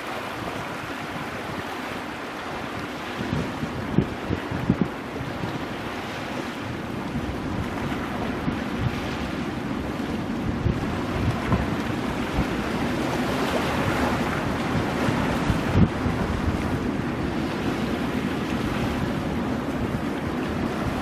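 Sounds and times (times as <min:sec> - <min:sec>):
ocean surf breaking on rocks: 0:00.0 - 0:21.0
wind buffeting microphone: 0:00.0 - 0:21.0.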